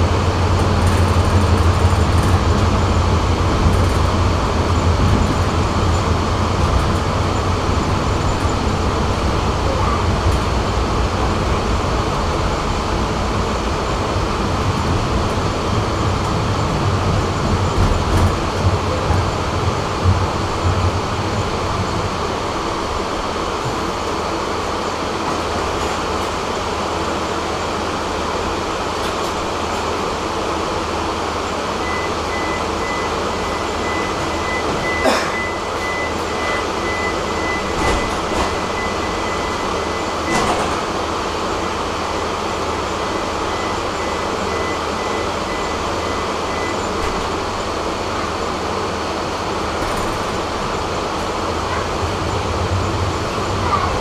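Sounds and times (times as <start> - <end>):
tram rolling rumble: 0.0 - 54.0.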